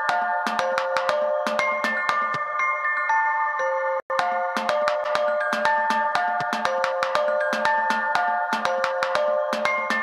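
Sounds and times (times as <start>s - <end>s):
background music with steady beat: 0.0s - 2.7s, 4.1s - 10.0s
bell-like tones: 0.0s - 10.0s.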